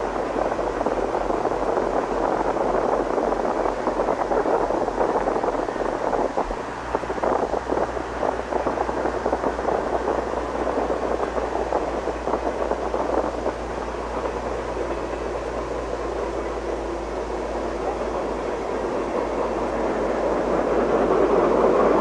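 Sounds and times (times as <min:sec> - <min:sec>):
low steady hum: 0:00.0 - 0:22.0
train rolling on rails: 0:00.0 - 0:22.0.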